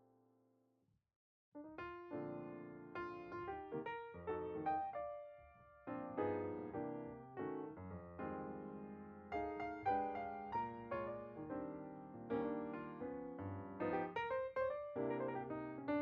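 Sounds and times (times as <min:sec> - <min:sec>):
piano music: 0:01.7 - 0:16.0.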